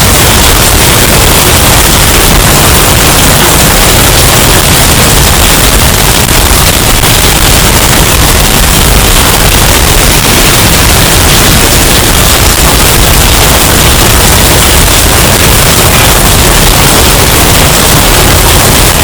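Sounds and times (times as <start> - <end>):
distorted loud wind noise: 0.0 - 19.0.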